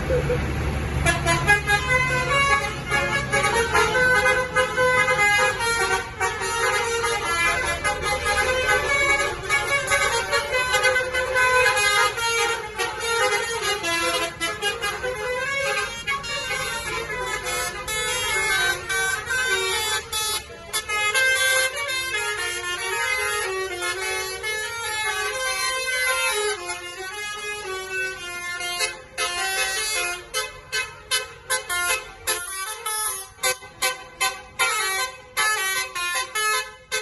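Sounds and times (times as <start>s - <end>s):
bus engine rumble: 0.0s - 37.0s
musical air horns playing a tune: 1.0s - 37.0s.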